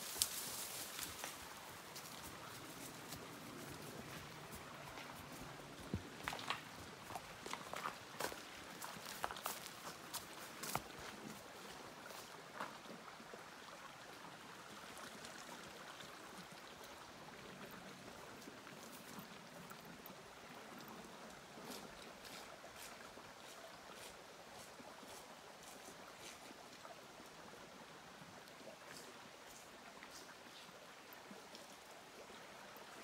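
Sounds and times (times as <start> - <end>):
creek water flowing: 0.0 - 33.0.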